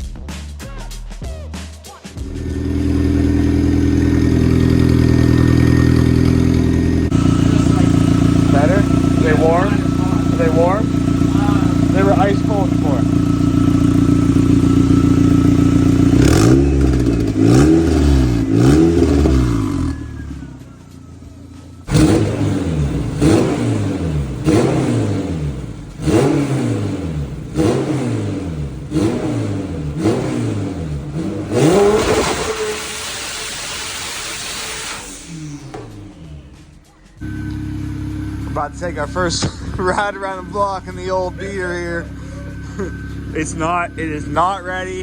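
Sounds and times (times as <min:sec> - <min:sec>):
car engine revving: 0:02.2 - 0:45.0.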